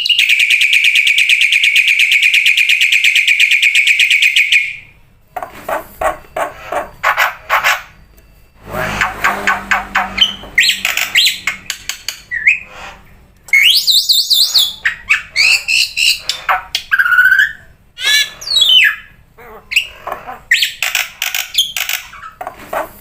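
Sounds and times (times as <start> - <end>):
bird singing squawks and whistles: 0.0 - 4.9, 8.7 - 12.7, 13.5 - 23.0.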